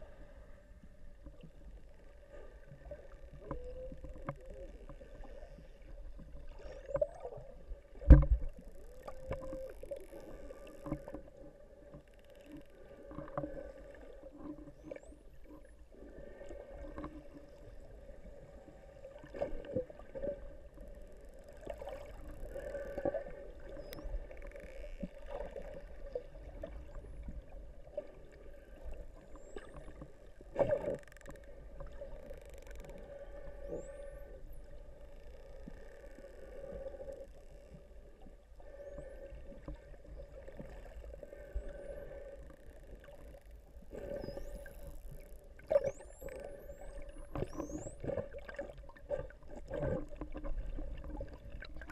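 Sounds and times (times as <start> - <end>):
underwater droning hum: 0.0 - 51.9.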